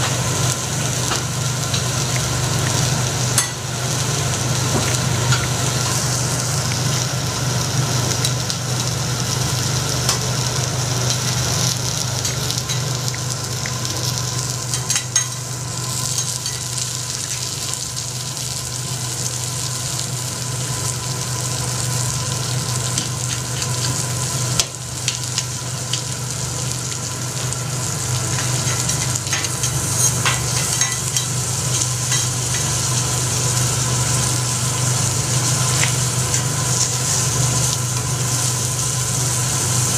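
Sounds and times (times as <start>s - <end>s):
food sizzling on a griddle: 0.0s - 39.9s
low steady hum: 0.0s - 39.9s.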